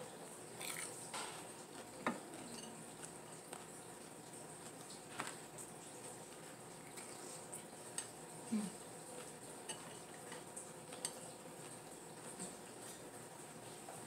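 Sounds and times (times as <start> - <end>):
chewing: 0.6 - 3.8, 4.6 - 13.1.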